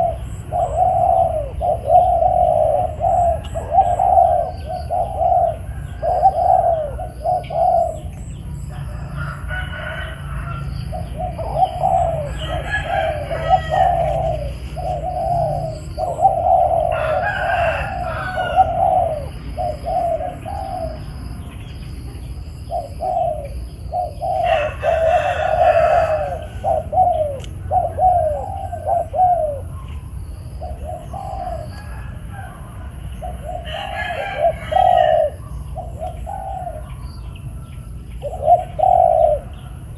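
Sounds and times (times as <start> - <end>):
birds chirping: 0.0 - 39.9
dove cooing: 0.0 - 39.9.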